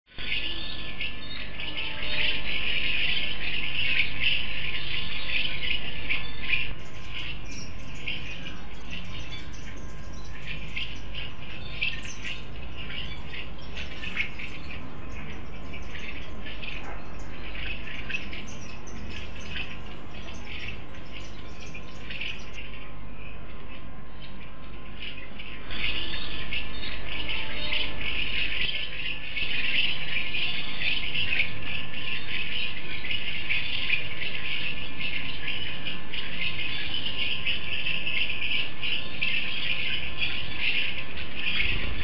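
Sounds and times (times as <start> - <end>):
small birds chirping: 0.1 - 22.7, 25.0 - 42.0.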